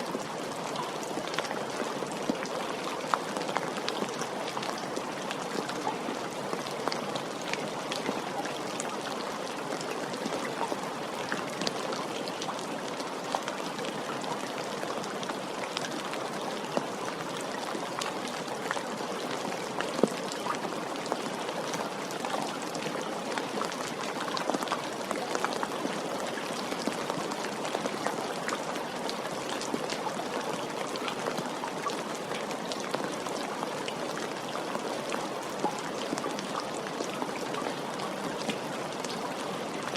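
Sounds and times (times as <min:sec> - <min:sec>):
raindrops ticking on surface: 0:00.0 - 0:39.9.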